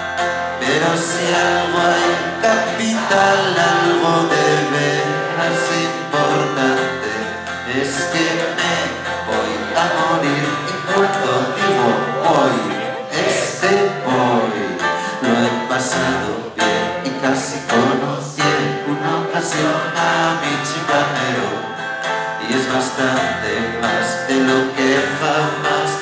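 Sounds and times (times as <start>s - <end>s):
strummed acoustic guitar: 0.0s - 26.0s
man singing: 0.4s - 26.0s.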